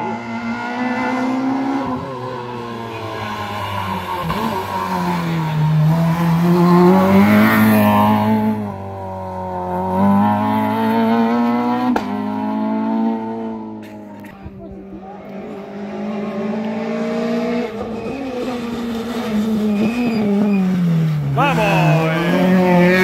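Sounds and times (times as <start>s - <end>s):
rally car engine: 0.0s - 23.0s.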